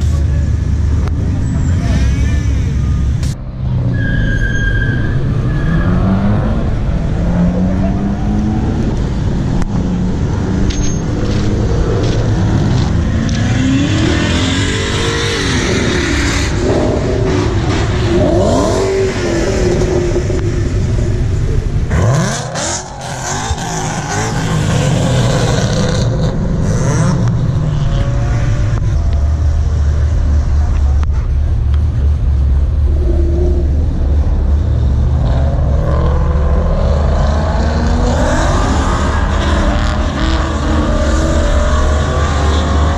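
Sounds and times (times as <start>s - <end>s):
car engine revving: 5.0s - 42.9s.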